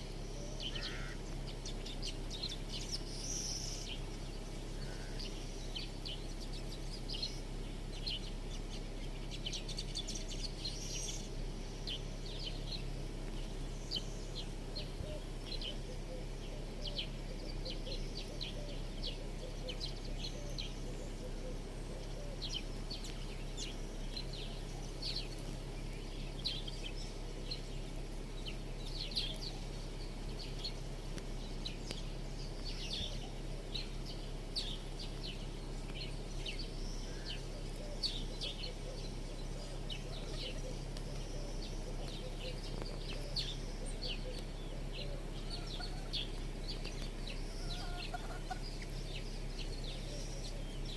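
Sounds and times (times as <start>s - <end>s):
small birds chirping: 0.0s - 50.9s
steady low hum: 0.0s - 50.9s.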